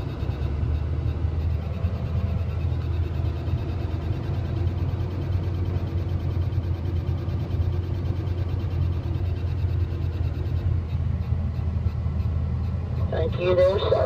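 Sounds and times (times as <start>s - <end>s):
engine and road rumble: 0.0s - 14.0s.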